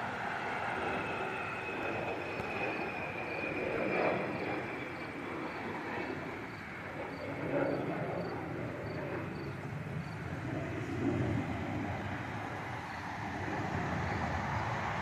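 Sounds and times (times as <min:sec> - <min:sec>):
high engine whine: 0:00.0 - 0:15.0
jet engine rumble: 0:00.0 - 0:15.0.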